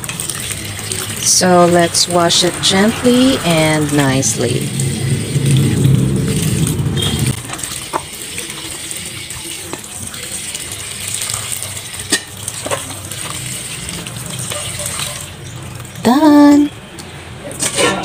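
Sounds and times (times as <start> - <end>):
tap water running: 0.0 - 16.7.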